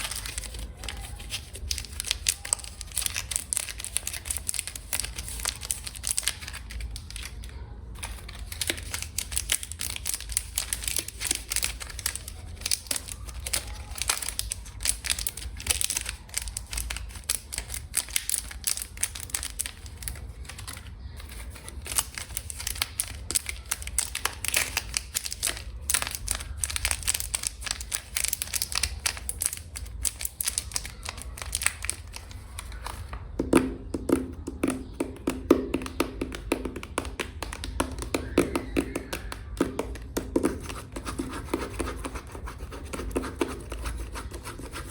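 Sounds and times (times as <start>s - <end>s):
packaging crinkling: 0.0s - 44.9s.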